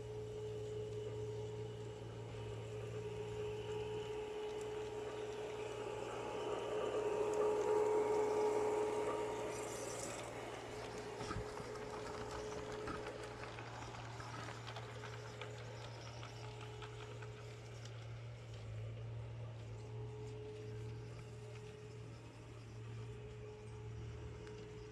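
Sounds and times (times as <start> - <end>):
model train motor whine: 0.0 - 24.9
wheels on track: 0.0 - 24.9.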